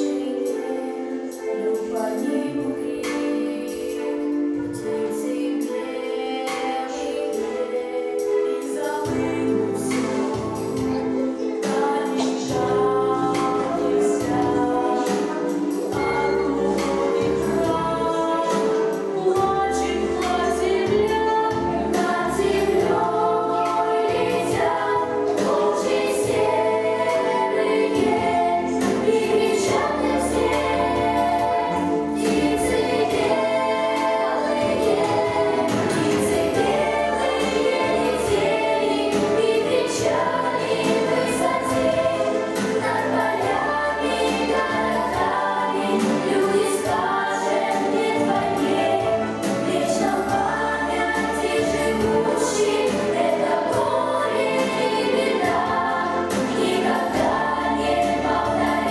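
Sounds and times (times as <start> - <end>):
children singing in unison: 0.0 - 58.9.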